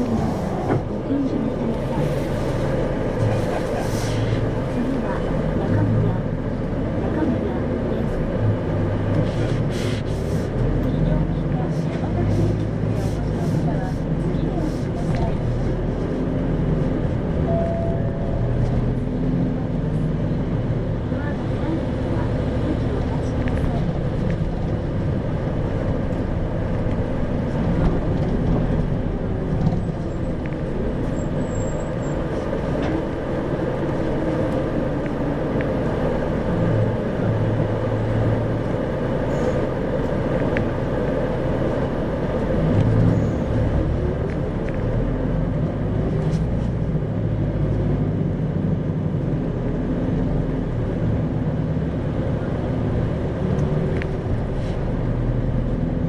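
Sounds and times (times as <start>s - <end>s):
bus diesel engine: 0.0s - 56.0s
road rumble: 0.0s - 56.0s.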